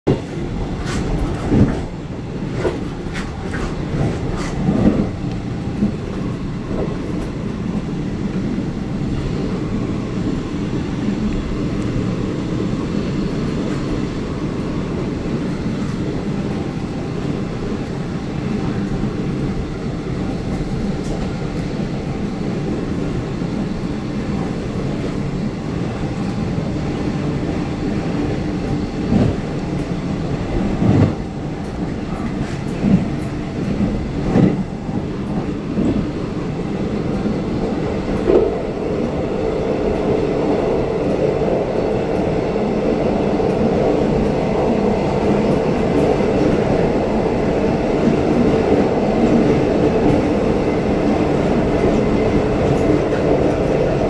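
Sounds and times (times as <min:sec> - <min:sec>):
train rumbling: 0:00.1 - 0:54.0.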